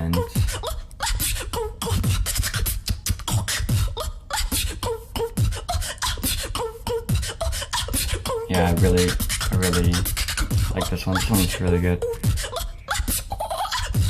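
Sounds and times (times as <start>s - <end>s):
beatboxing: 0.0s - 14.0s.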